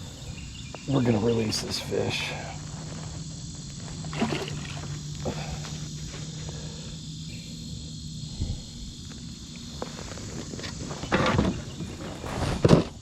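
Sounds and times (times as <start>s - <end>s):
low hum: 0.0s - 12.4s
crickets chirping: 0.0s - 13.0s.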